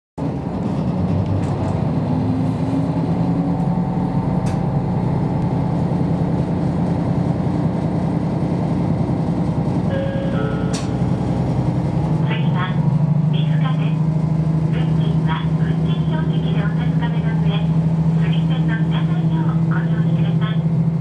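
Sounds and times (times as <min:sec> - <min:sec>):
diesel engine drone: 0:00.2 - 0:21.0.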